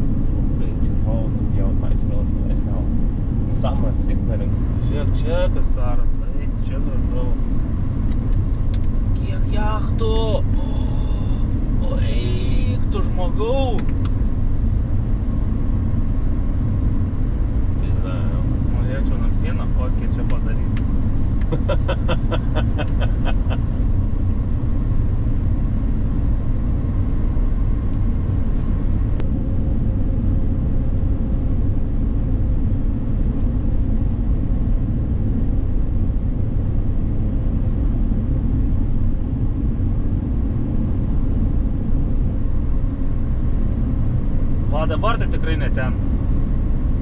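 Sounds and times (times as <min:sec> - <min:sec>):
vehicle engine and road rumble: 0:00.0 - 0:47.0.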